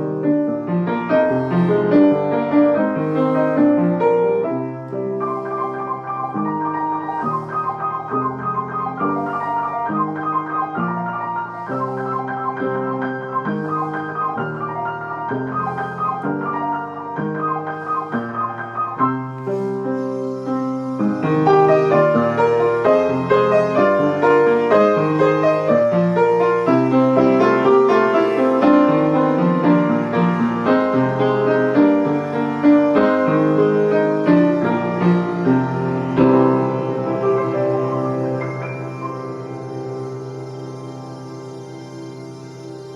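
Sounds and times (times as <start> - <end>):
piano playing chords: 0.0 - 42.9.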